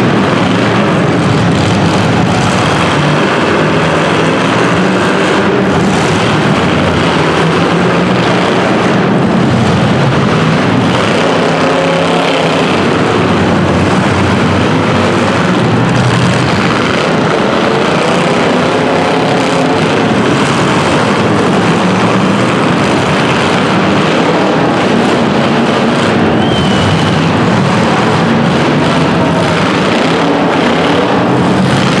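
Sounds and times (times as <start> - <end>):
race car engines running: 0.0 - 32.0.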